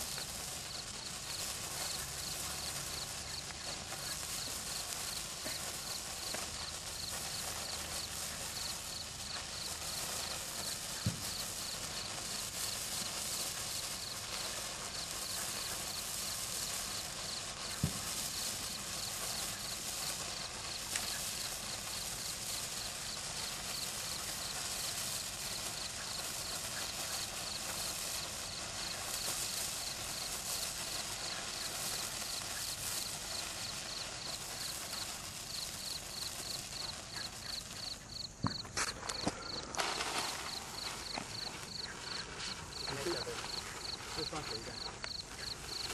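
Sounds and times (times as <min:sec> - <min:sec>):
sparkler fizzing crackle: 0:00.0 - 0:45.9.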